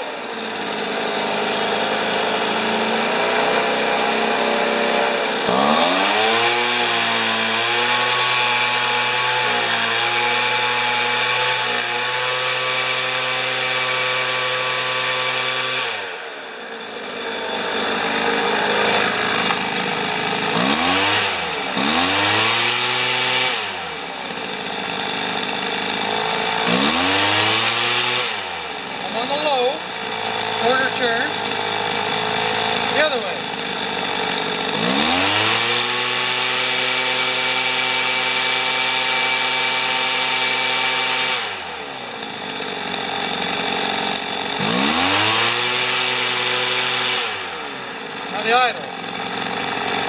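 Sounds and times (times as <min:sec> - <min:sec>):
leaf blower engine revving: 0:00.0 - 0:50.0.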